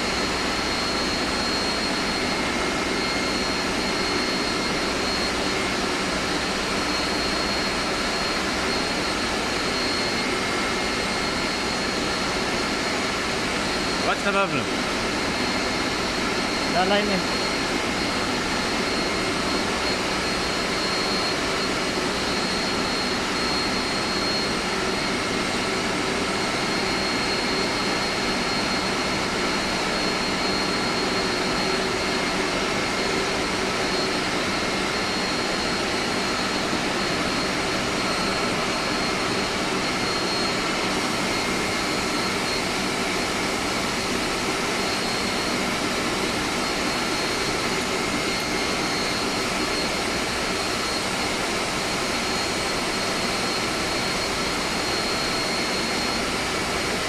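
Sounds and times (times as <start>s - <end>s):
air conditioning machinery running: 0.0s - 57.0s
high whine: 0.0s - 57.0s.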